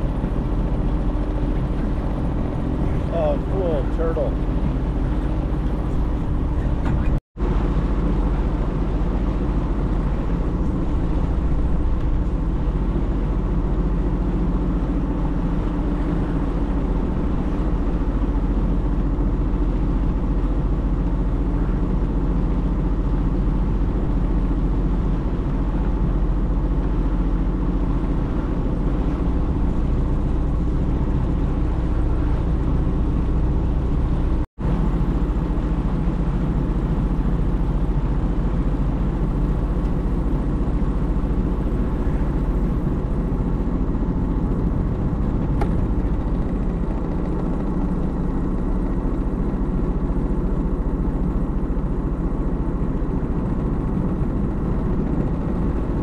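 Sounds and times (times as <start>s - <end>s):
watercraft engine droning: 0.0s - 56.0s.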